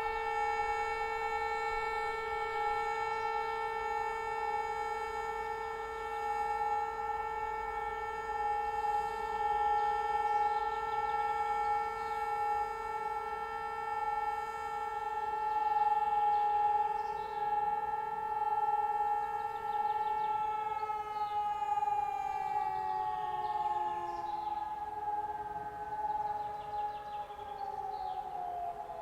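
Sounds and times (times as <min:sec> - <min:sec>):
pneumatic siren steady tone: 0:00.0 - 0:29.0.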